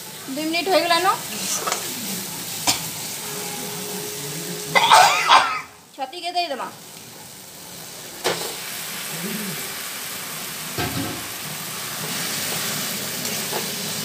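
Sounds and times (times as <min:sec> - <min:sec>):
mushrooms sizzling in hot oil: 0:00.0 - 0:14.0.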